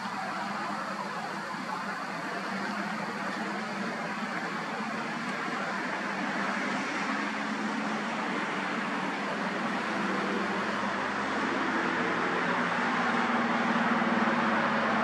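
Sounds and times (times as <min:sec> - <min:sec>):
passing car traffic: 0:00.0 - 0:15.0.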